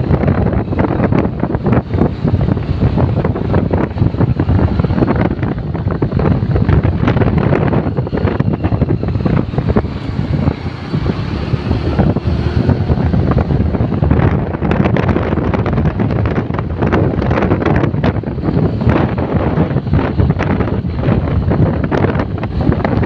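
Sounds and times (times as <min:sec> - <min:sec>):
motorbike rumble: 0:00.0 - 0:23.0
wind buffeting microphone: 0:00.0 - 0:23.0.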